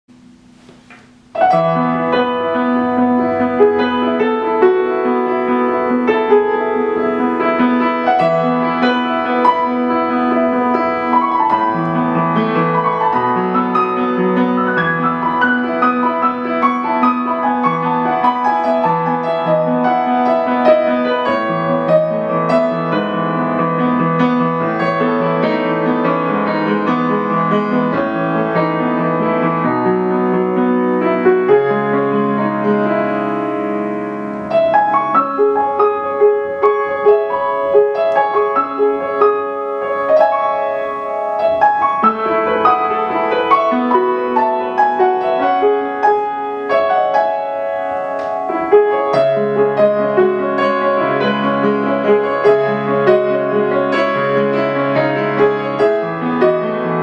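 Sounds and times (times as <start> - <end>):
solo piano music: 0.1 - 57.0.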